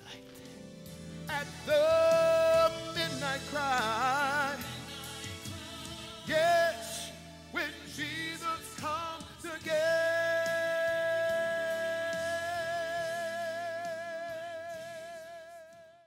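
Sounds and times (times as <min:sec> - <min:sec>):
soft instrumental backing: 0:00.0 - 0:15.9
person singing with vibrato: 0:01.2 - 0:16.0.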